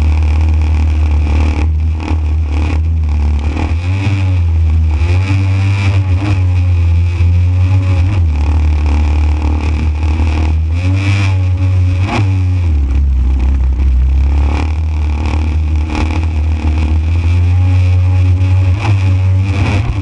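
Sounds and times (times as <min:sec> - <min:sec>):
small two-stroke engine revving: 0:00.0 - 0:20.0
steady low rumble: 0:00.0 - 0:20.0.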